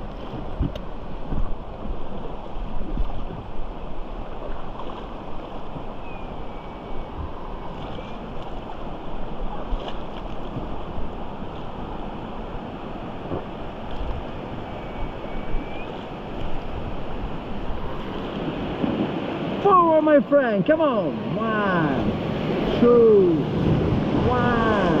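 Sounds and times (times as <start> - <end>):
wind buffeting microphone: 0.0 - 19.8, 21.1 - 25.0
river water rushing: 0.0 - 25.0.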